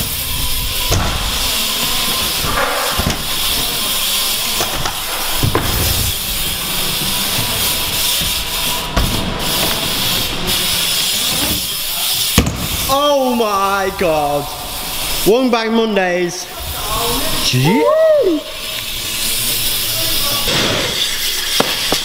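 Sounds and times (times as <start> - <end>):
bike tyres rushing on wooden ramps: 0.0 - 22.0.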